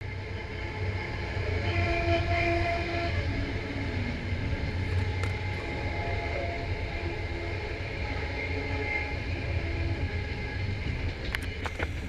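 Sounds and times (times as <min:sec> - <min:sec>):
singing rails whine: 0:00.0 - 0:12.0
train rumbling on rails: 0:00.0 - 0:12.0.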